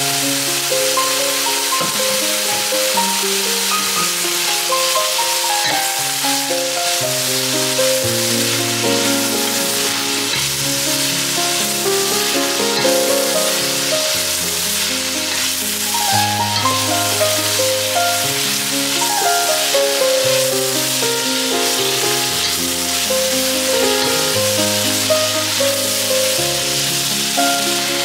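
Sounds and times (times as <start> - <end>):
kale sizzling in a pot: 0.0 - 28.0.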